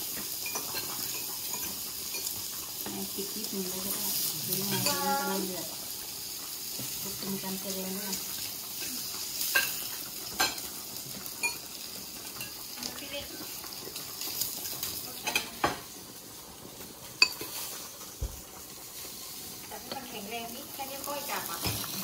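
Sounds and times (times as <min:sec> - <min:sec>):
broth simmering hiss: 0:00.0 - 0:22.0.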